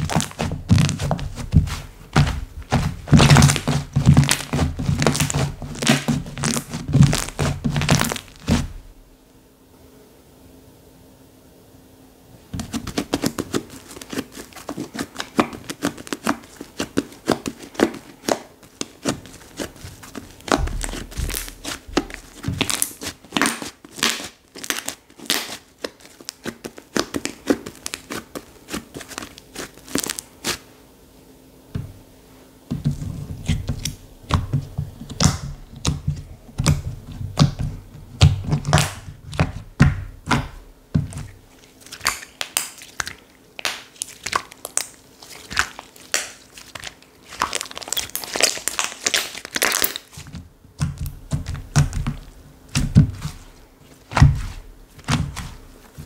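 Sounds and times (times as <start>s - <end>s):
thick slime squishing: 0.0s - 9.0s, 12.6s - 30.7s, 32.7s - 56.0s.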